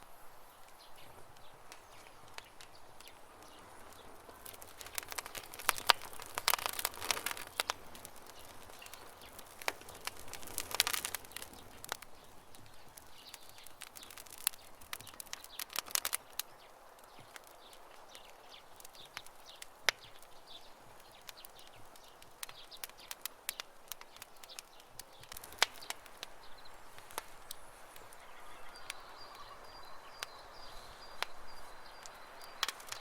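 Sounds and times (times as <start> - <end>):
campfire crackling: 0.0 - 33.0
faint birds chirping: 0.0 - 33.0.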